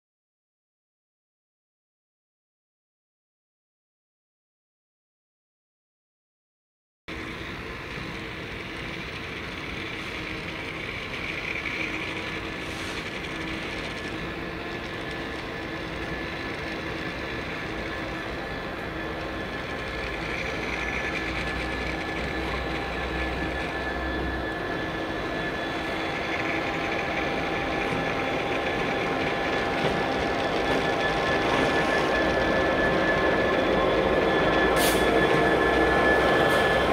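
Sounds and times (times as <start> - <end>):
diesel locomotive engine running: 7.1 - 36.9
steady high whine: 7.1 - 36.9.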